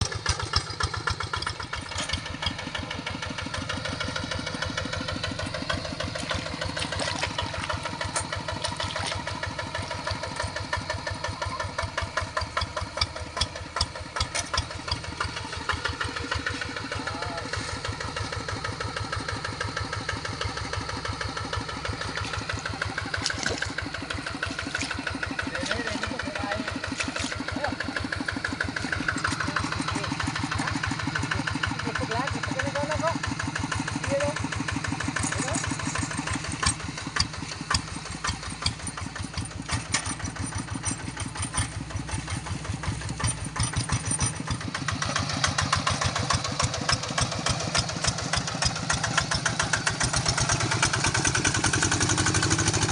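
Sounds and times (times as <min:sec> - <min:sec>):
tractor diesel engine chugging: 0:00.0 - 0:52.9.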